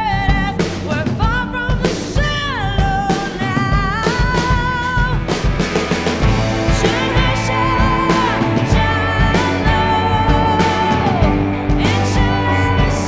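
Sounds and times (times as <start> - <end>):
woman singing with vibrato: 0.0 - 5.4, 6.5 - 13.0
pop music drums and instruments: 0.0 - 13.0.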